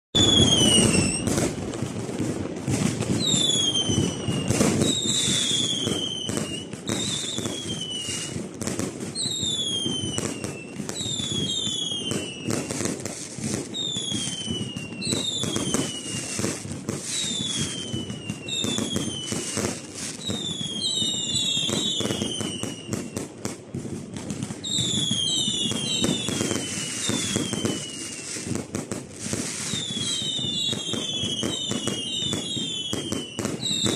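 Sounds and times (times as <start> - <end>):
fireworks cracks and bangs: 0.1 - 33.9
whistling firework shells: 0.2 - 33.9.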